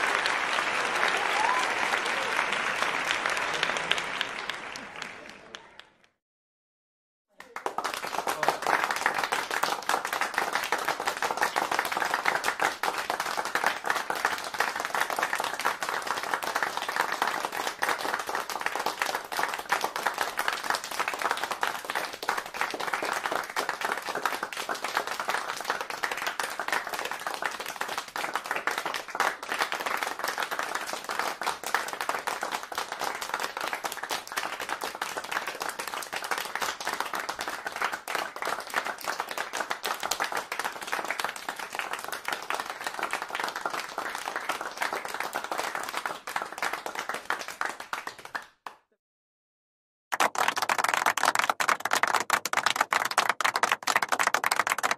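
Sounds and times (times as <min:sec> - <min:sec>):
crowd applauding: 0:00.0 - 0:06.1, 0:07.3 - 0:48.8, 0:50.1 - 0:54.9.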